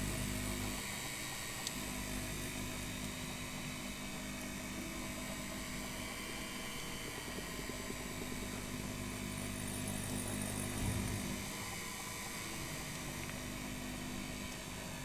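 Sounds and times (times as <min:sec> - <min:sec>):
potter's wheel motor humming: 0:00.0 - 0:15.0.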